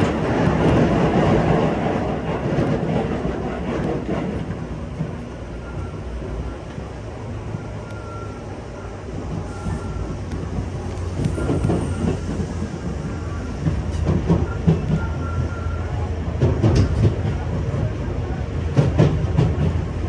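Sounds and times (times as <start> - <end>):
train low rumble: 0.0 - 20.0
wheels clattering on track: 0.0 - 20.0.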